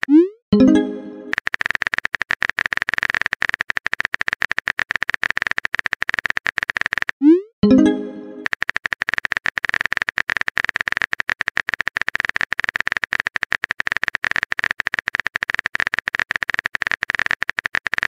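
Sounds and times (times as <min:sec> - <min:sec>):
phone keyboard typing clicks: 0:00.6 - 0:07.2, 0:07.8 - 0:18.0.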